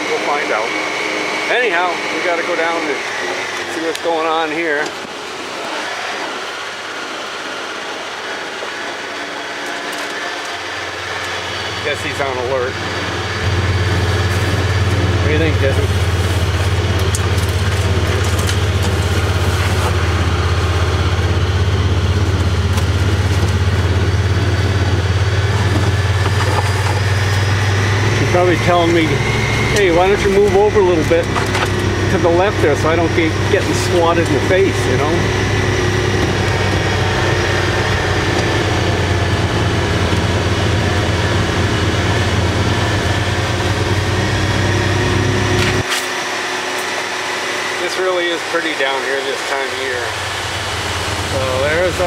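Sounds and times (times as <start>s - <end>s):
utility vehicle engine droning: 0.0s - 52.0s
faint high whine: 7.9s - 52.0s.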